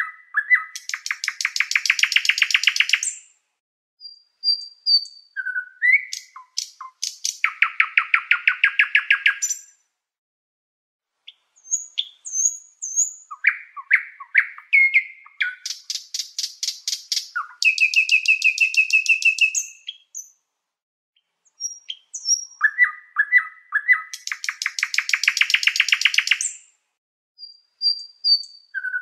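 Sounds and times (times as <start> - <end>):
songbird singing trills: 0.0 - 3.3, 4.0 - 9.7, 11.3 - 20.4, 21.2 - 26.7, 27.4 - 29.0.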